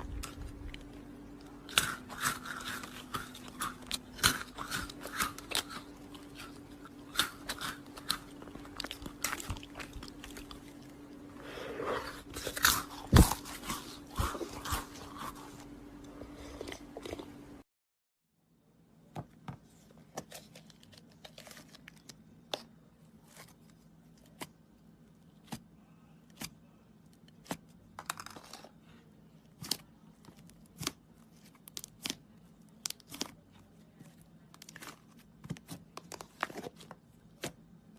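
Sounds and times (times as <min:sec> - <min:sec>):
faint steady hum: 0:00.0 - 0:17.7, 0:18.3 - 0:37.9.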